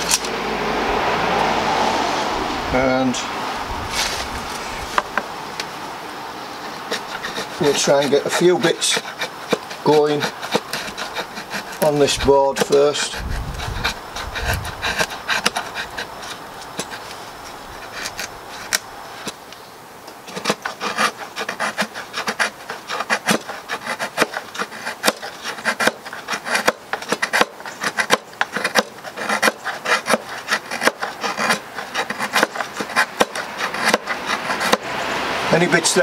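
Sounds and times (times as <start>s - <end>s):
knife scraping wood shavings: 3.9s - 5.7s, 6.5s - 19.6s, 20.2s - 36.0s.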